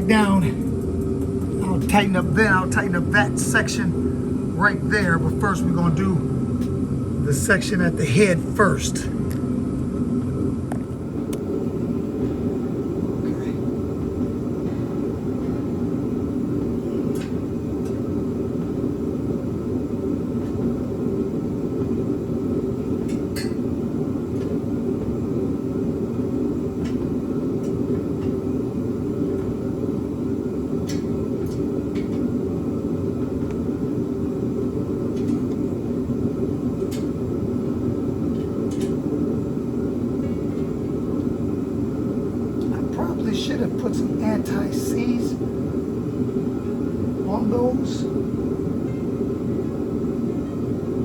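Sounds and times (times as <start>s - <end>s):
steady low drone: 0.0s - 51.0s.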